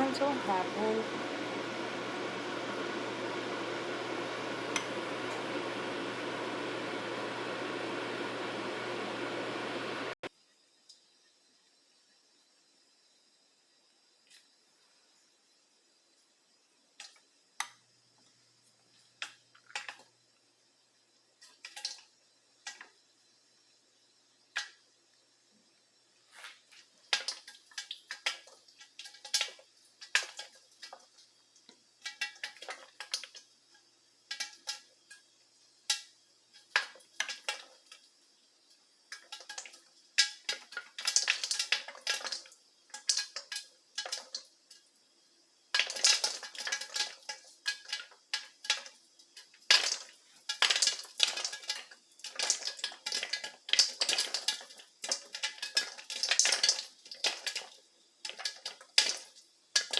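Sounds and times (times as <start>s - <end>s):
popcorn popping in a covered pan: 0.0s - 10.2s, 16.8s - 18.2s, 19.0s - 23.6s, 24.4s - 25.0s, 26.3s - 59.9s.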